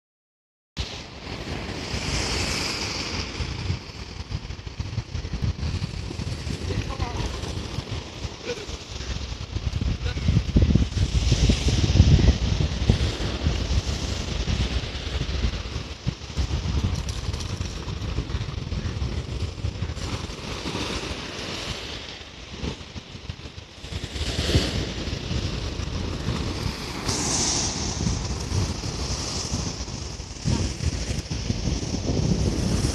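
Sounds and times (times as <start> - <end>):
surf breaking on rocks: 0.8 - 32.9
wind buffeting microphone: 0.8 - 32.9.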